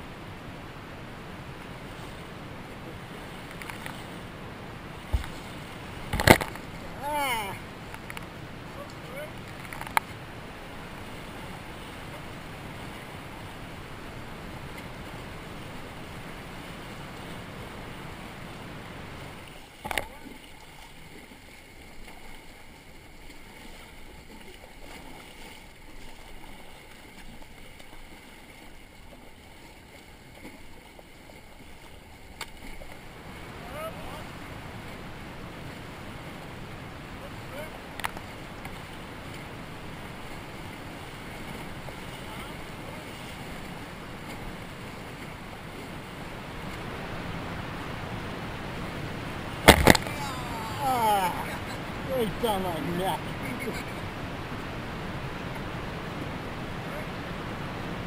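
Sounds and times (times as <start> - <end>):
river water rushing and splashing: 0.0 - 58.0.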